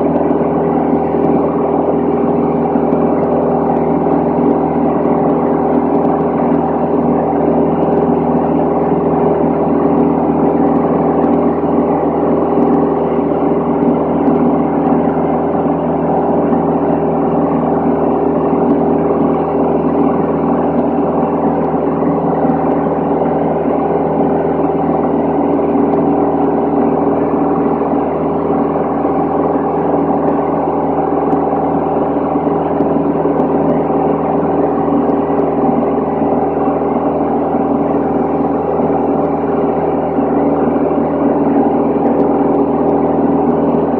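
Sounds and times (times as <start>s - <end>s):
aircraft engine and propeller droning: 0.0s - 43.9s.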